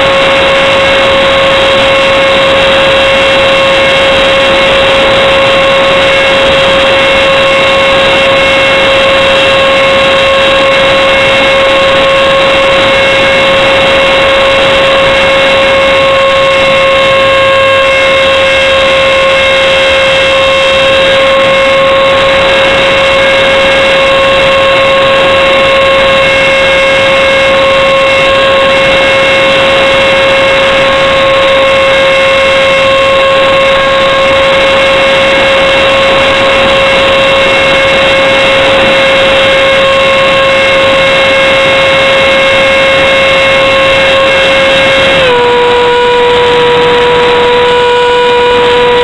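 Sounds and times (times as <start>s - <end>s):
model jet fan whine: 0.0s - 49.0s.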